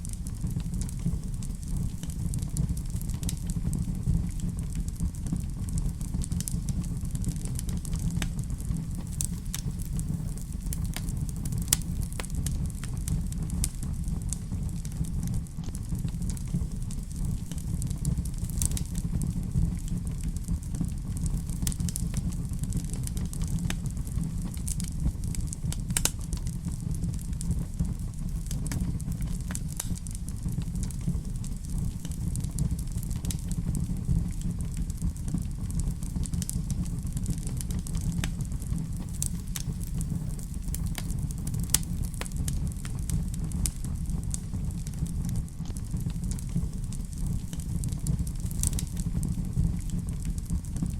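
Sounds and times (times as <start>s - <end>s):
low rumble of fire: 0.0s - 50.9s
wood fire crackling: 0.0s - 50.9s
sharp pops and snaps: 0.1s - 50.9s.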